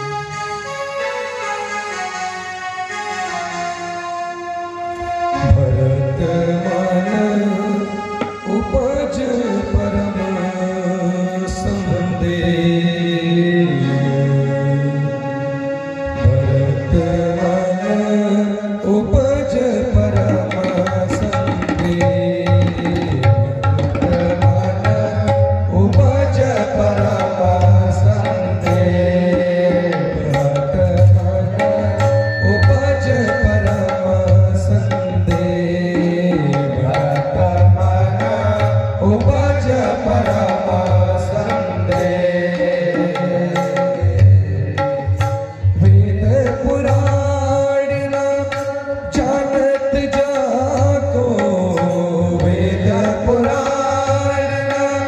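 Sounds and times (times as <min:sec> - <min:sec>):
harmonium drone: 0:00.0 - 0:55.0
tabla and dholak drumming: 0:04.9 - 0:15.2, 0:16.1 - 0:55.0.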